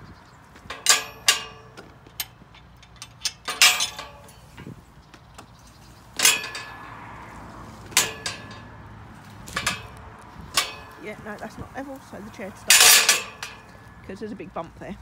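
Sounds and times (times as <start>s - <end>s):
wheelchair frame clanking: 0.5s - 14.0s.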